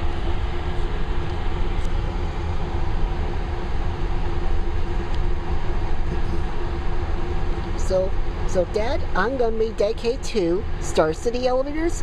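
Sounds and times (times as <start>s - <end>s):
car wash blowers rushing air: 0.0s - 12.0s.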